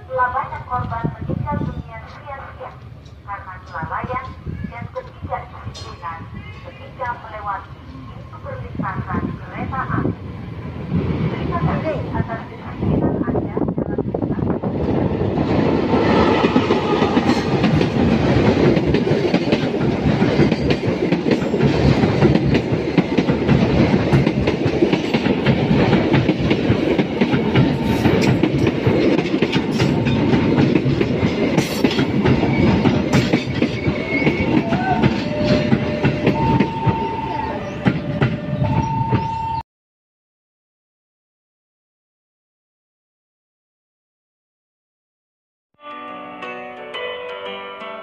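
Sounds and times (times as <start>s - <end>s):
train rumbling past: 0.0s - 39.6s.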